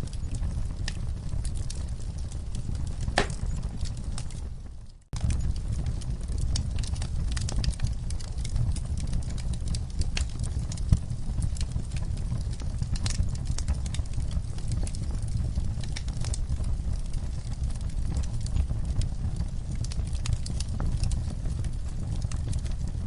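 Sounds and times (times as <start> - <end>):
fire low rumble: 0.0 - 23.0
wood fire crackling: 0.0 - 23.0.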